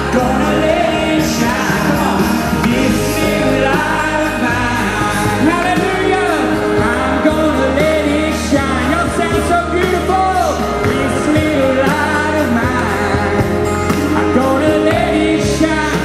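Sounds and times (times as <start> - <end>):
instrumental backing music: 0.0 - 16.0
man singing: 0.0 - 16.0.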